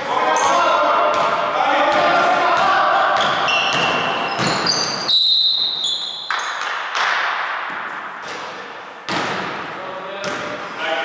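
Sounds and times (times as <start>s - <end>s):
sneakers squeaking: 0.0s - 10.8s.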